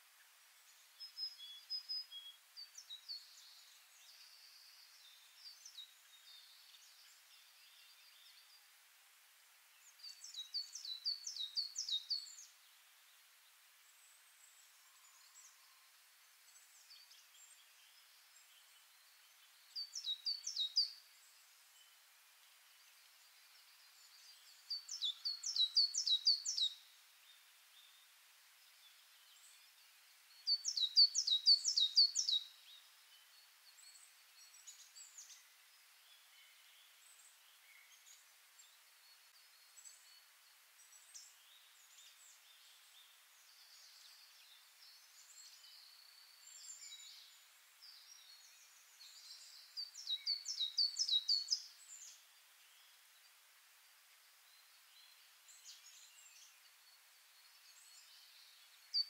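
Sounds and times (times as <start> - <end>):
faint bird chirps: 0.0 - 8.8, 9.7 - 59.0.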